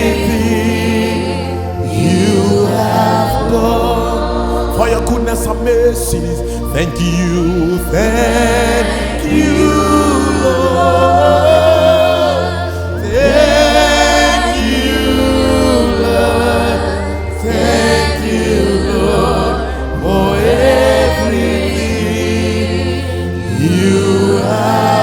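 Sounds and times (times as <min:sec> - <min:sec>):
keyboard and bass backing track: 0:00.0 - 0:25.0
voices singing gospel song: 0:00.0 - 0:25.0.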